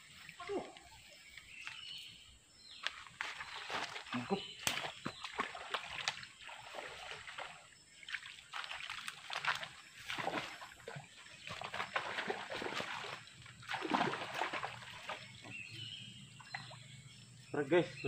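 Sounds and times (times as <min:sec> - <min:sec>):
water splashing and sloshing: 0:02.8 - 0:17.2.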